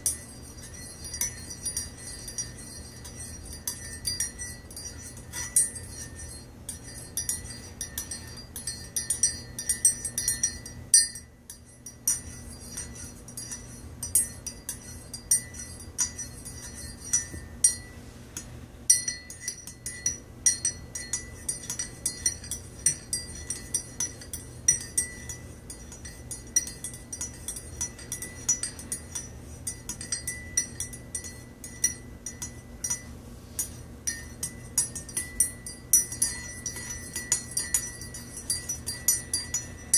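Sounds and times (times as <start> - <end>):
spoon clinking in ceramic mug: 0.0 - 17.9, 18.9 - 39.9.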